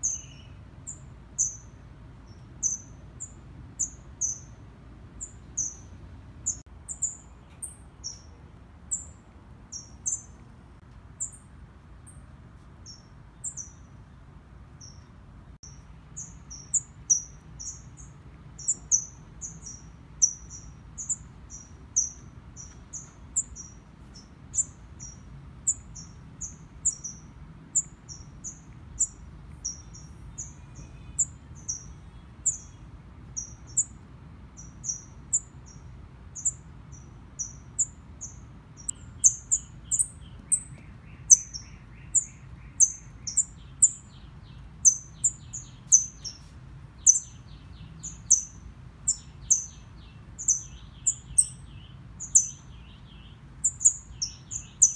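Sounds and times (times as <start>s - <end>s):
faint twittering trill: 0.0s - 4.6s, 5.2s - 10.5s, 14.8s - 34.0s, 34.6s - 54.9s
fledgling bird chirping: 0.0s - 4.6s, 5.2s - 10.4s, 14.8s - 34.0s, 34.6s - 54.9s.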